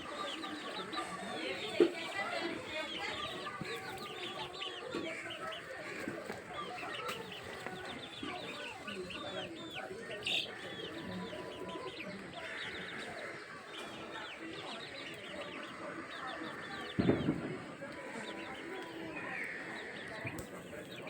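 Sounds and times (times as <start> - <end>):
birds chirping: 0.0 - 21.0
chickens clucking: 0.0 - 21.0.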